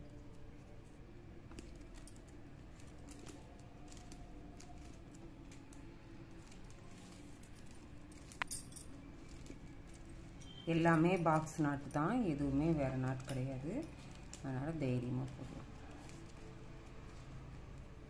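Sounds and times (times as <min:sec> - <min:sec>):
plastic wire clicking and rustling: 0:00.0 - 0:18.0.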